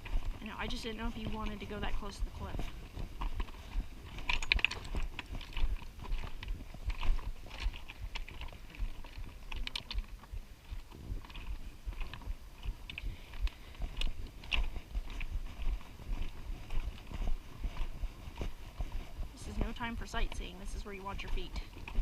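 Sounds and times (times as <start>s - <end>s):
footsteps on gravel: 0.0s - 22.0s.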